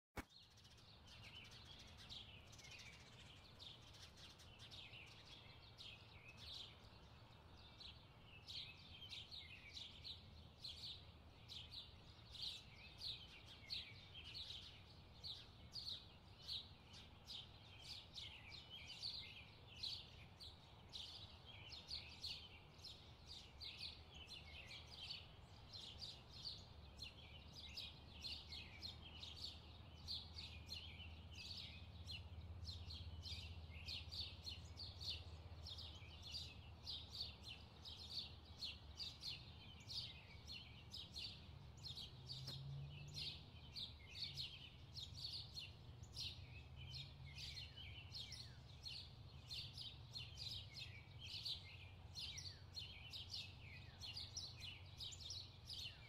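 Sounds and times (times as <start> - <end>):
birds chirping: 0.2 - 56.0.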